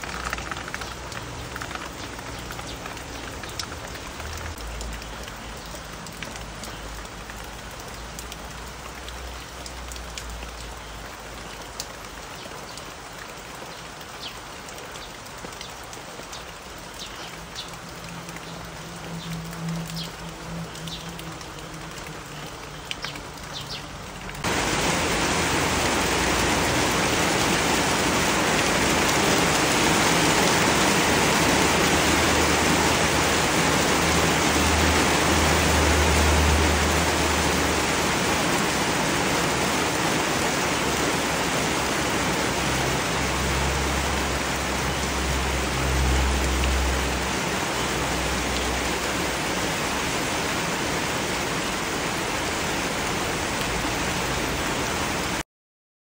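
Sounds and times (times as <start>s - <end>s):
rain falling on foliage: 0.0s - 55.4s.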